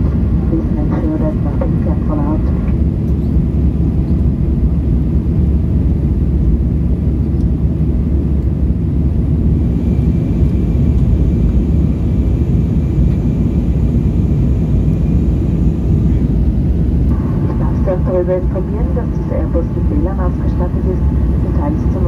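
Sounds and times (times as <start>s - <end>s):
aircraft engine roar in cabin: 0.0s - 22.0s.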